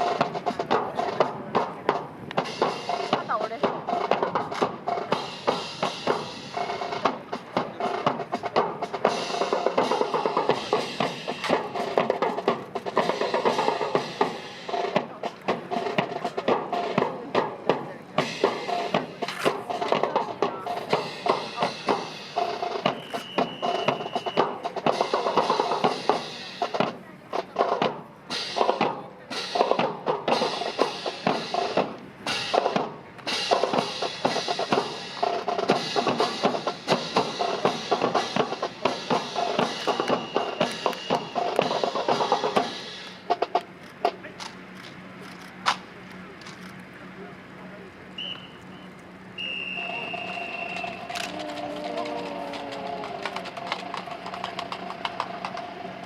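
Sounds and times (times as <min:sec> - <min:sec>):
music: 0:00.0 - 0:44.2, 0:48.3 - 0:56.0
drums playing: 0:00.0 - 0:44.7, 0:49.5 - 0:56.0.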